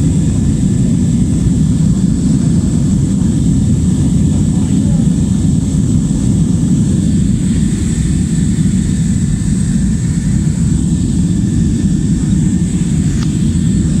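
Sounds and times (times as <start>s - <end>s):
airliner cabin rumble: 0.0s - 14.0s
faint high whine: 0.0s - 14.0s.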